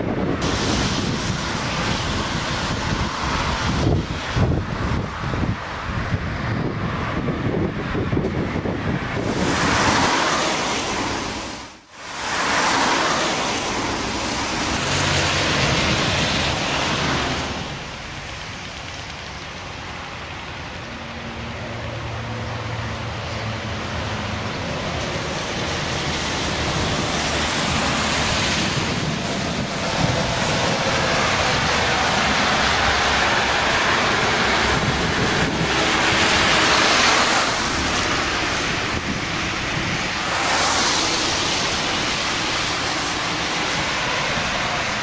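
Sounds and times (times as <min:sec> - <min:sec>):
motorway traffic passing: 0:00.0 - 0:45.0.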